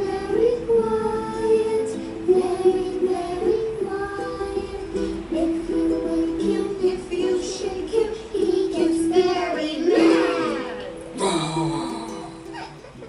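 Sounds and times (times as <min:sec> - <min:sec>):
voices singing a gentle children's song: 0:00.0 - 0:13.0.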